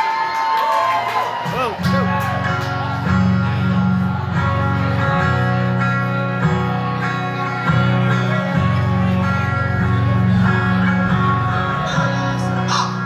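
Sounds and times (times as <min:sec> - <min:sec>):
electric guitars playing chords: 0:01.4 - 0:13.0.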